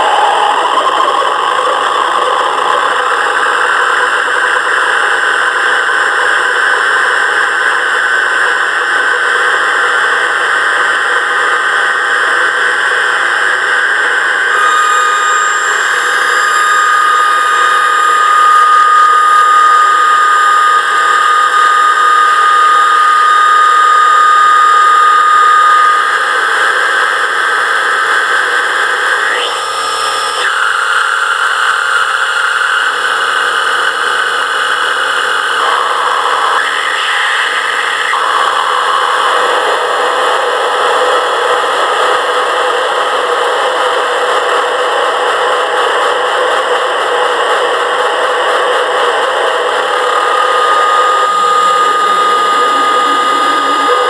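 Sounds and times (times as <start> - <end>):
steady high tone: 0.0 - 44.2, 46.1 - 54.0
loud noisy electronic drone: 0.0 - 54.0.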